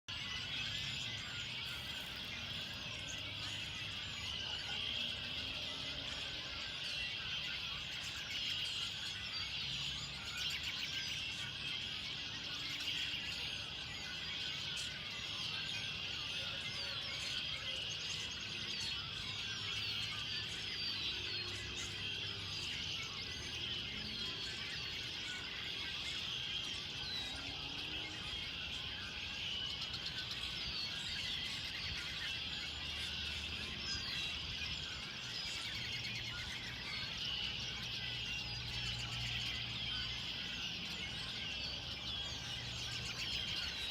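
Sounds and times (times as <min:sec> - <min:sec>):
birds chirping and singing: 0:00.1 - 0:43.9.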